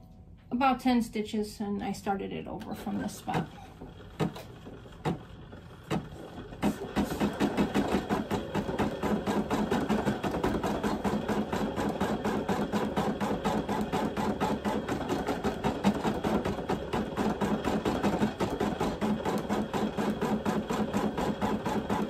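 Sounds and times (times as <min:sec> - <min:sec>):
embroidery machine stitching: 0:02.8 - 0:22.0.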